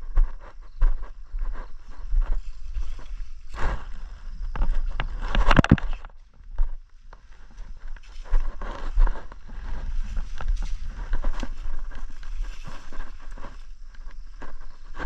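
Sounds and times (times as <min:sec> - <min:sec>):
footsteps through grass and brush: 0:00.0 - 0:15.0
wind buffeting the microphone: 0:00.0 - 0:15.0.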